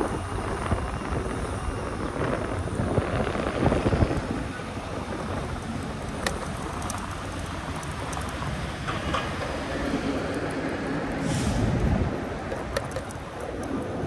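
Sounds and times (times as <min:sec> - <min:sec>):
rushing rumble of tires and air: 0:00.0 - 0:14.0.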